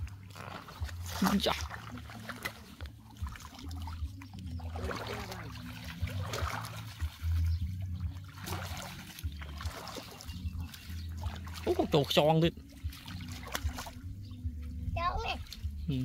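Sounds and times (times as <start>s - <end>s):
shallow water splashing: 0.0s - 16.0s.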